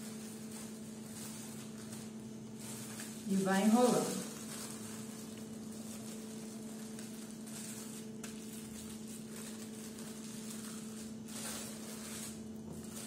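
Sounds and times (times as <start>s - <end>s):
plastic film crinkling: 0.0s - 13.0s
steady low hum: 0.0s - 13.0s.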